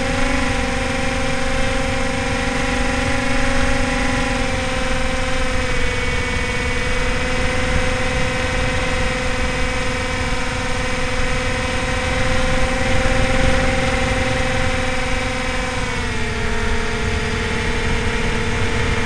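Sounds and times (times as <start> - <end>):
electric motor and propeller whine: 0.0 - 19.0
wind rushing over microphone: 0.0 - 19.0.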